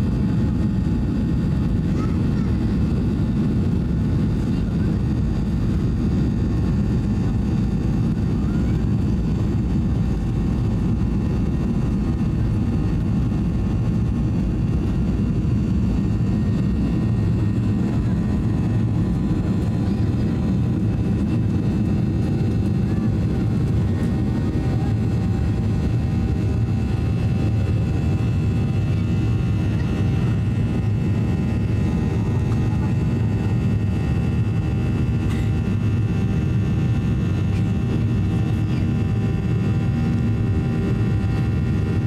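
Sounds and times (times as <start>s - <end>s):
jet engines at takeoff power: 0.0s - 42.0s.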